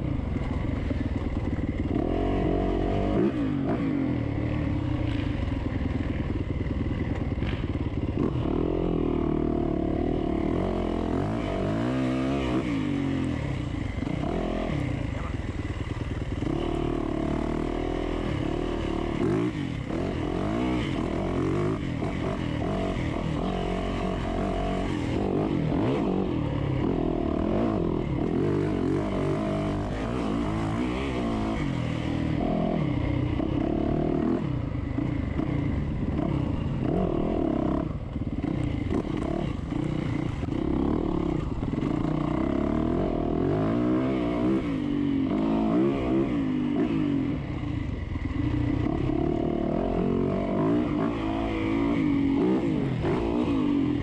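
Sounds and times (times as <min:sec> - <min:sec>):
dirt bike engine revving: 0:01.7 - 0:06.2, 0:07.4 - 0:54.0.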